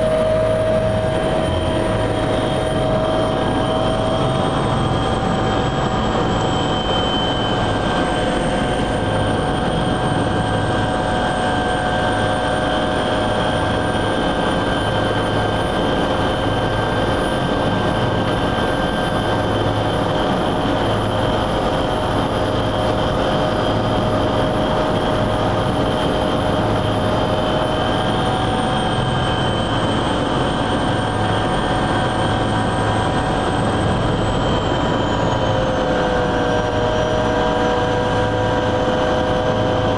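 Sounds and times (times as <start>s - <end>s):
helicopter engine and rotor drone: 0.0s - 39.9s
high turbine whine: 0.0s - 39.9s.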